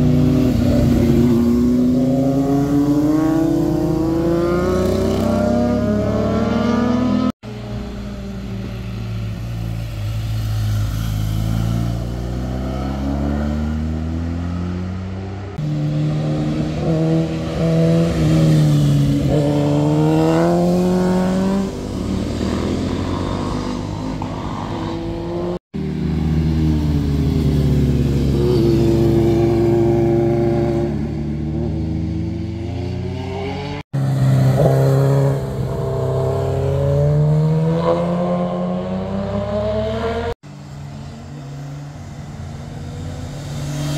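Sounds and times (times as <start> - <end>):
motorcycle engines passing: 0.0 - 43.9.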